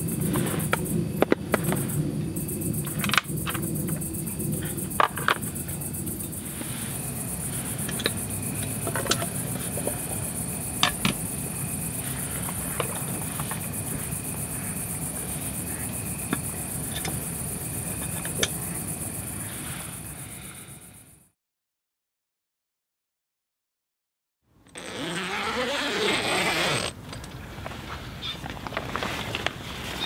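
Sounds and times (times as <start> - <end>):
crickets chirring: 0.0 - 21.4, 24.7 - 30.0.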